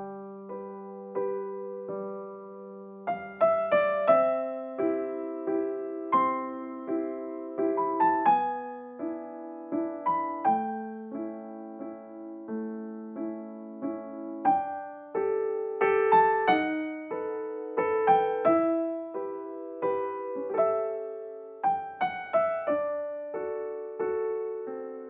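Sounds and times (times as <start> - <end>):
gentle solo piano: 0.0 - 25.0.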